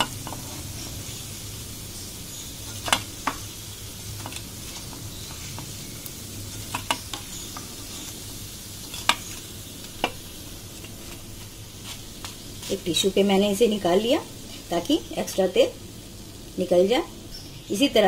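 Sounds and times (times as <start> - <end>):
fritters sizzling in oil: 0.0 - 18.0.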